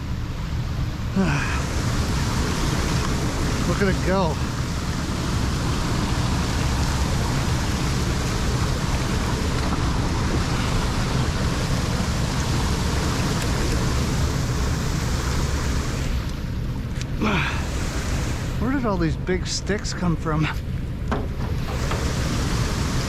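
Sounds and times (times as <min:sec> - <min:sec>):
water rushing into a pipe: 0:01.0 - 0:16.4, 0:17.1 - 0:19.4, 0:21.4 - 0:23.0.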